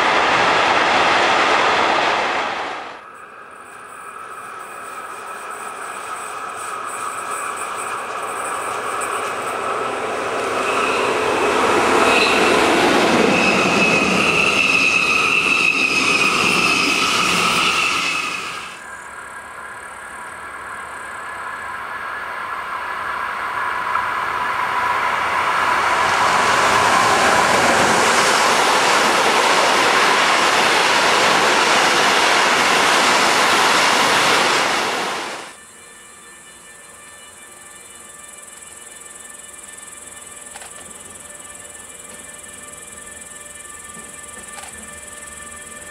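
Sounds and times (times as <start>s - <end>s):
freight train rolling: 0.0s - 45.9s
train wheel squeal: 3.0s - 45.9s.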